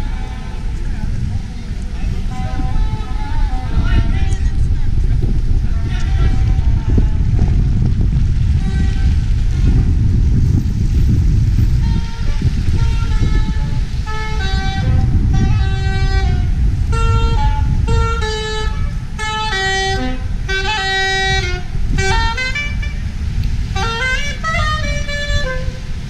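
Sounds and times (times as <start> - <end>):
city noise rumble: 0.0 - 26.0.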